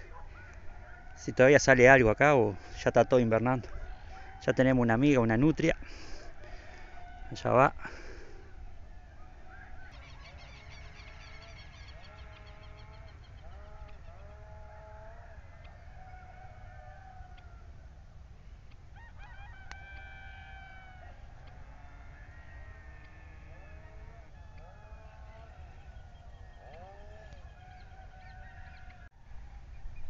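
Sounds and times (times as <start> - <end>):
distant animal calls: 0.0 - 29.8.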